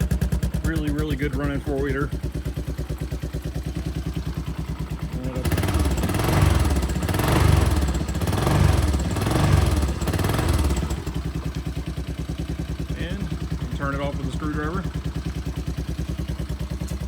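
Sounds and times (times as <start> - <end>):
atv engine idling and revving: 0.0 - 17.0.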